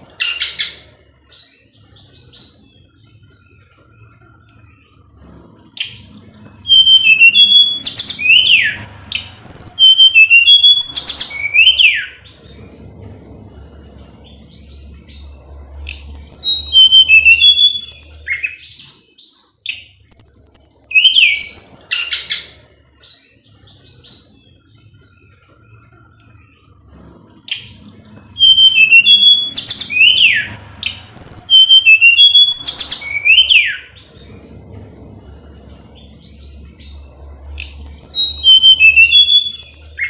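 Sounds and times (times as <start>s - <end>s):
bird singing high chirps: 0.0s - 40.0s.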